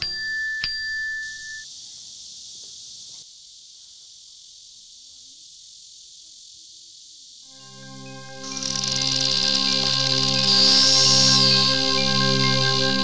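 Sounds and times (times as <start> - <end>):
faint hiss: 1.1 - 13.0.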